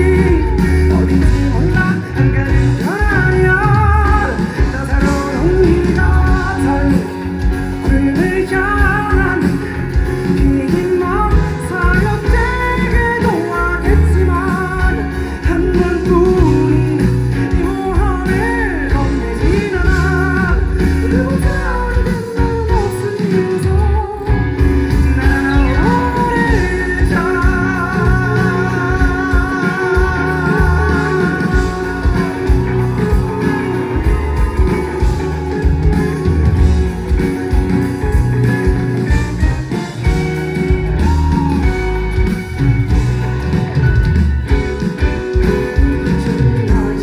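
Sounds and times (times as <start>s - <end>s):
drums and bass beat: 0.0s - 47.0s
electric guitar melody: 0.0s - 47.0s.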